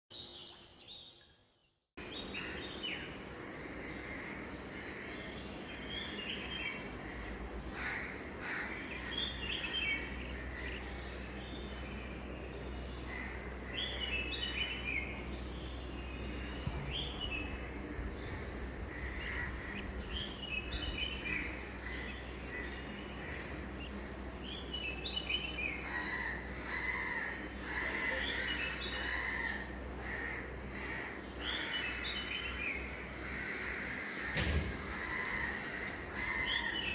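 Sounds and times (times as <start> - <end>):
birds chirping and calling: 2.0 - 36.9
low background hum: 2.0 - 36.9.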